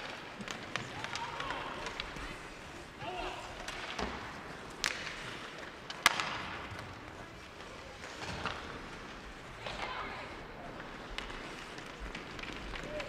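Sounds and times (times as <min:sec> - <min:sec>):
hockey puck and sticks cracking: 0:00.0 - 0:13.0.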